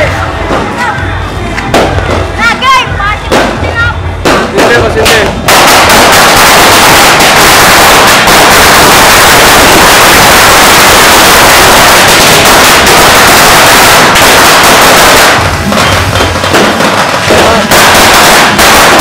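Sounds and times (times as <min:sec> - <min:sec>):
firework fountain hissing and crackling: 0:00.0 - 0:19.0.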